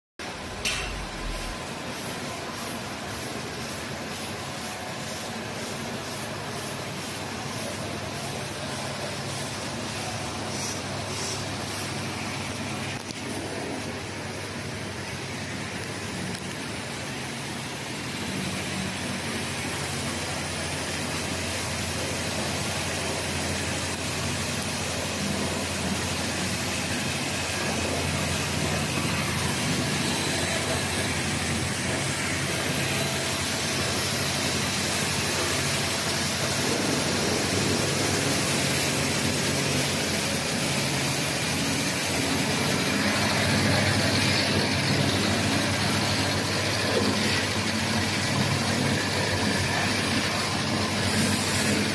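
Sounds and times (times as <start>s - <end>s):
sewing machine hum and whir: 0.2s - 51.9s.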